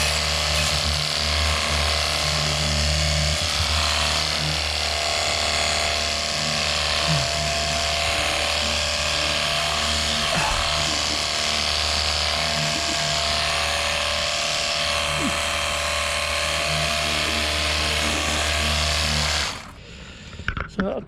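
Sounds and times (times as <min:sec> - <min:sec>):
pump motor humming: 0:00.0 - 0:20.7.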